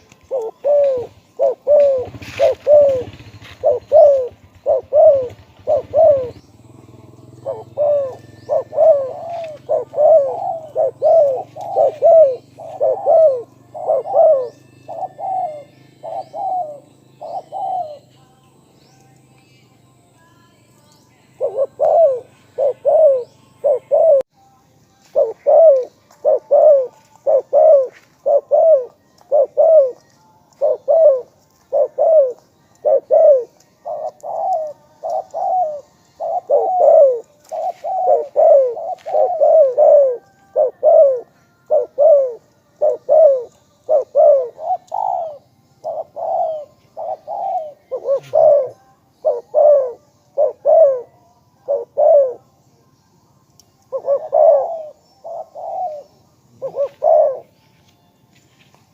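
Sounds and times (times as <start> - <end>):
dove cooing: 0.0 - 18.1, 21.3 - 24.3, 25.1 - 52.5, 53.8 - 57.6.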